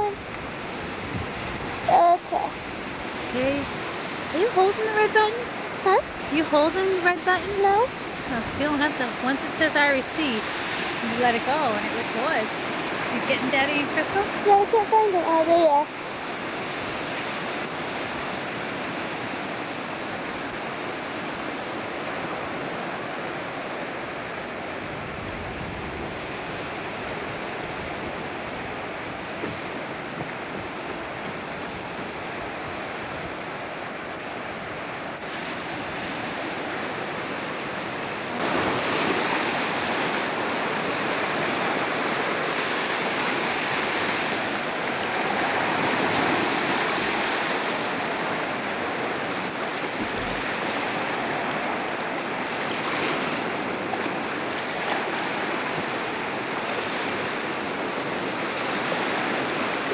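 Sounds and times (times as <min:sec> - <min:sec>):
ocean surf washing ashore: 0:00.0 - 0:59.9
wind buffeting microphone: 0:00.0 - 0:59.9.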